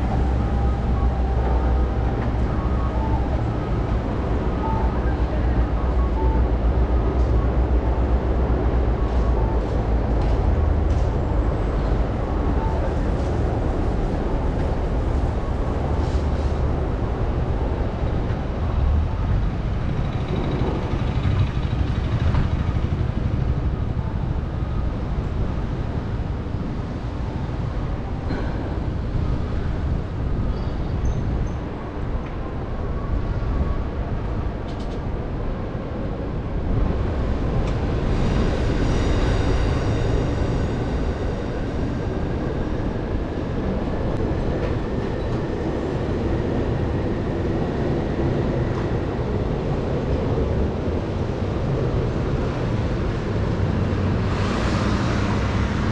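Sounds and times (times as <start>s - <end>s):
city traffic: 0.0s - 55.9s
wind noise: 0.0s - 55.9s.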